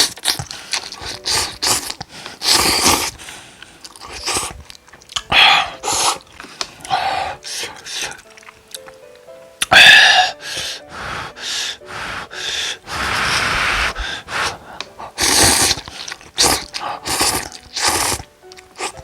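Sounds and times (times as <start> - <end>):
slurping noodles: 0.0 - 8.4, 9.6 - 19.0.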